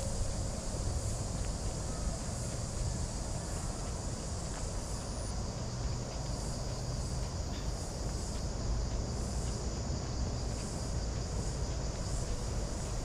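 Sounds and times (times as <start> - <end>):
faint footsteps: 0.0 - 13.0
high pulsing insect chirp: 0.0 - 13.0
insects buzzing drone: 0.0 - 13.0.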